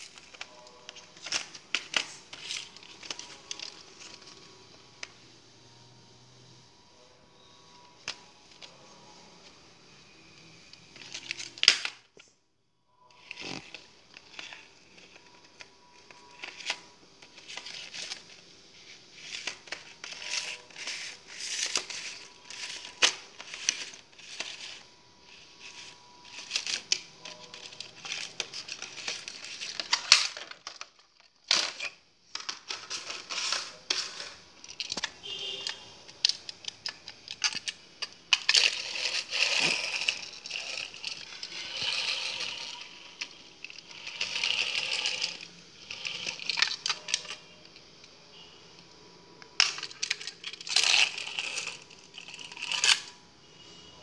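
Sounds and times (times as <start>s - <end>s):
plastic packaging crinkling: 0.0s - 4.7s, 13.2s - 48.5s, 49.4s - 53.2s.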